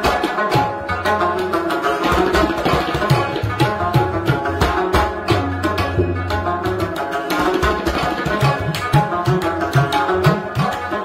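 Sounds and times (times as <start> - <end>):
hand drums playing: 0.0 - 11.0.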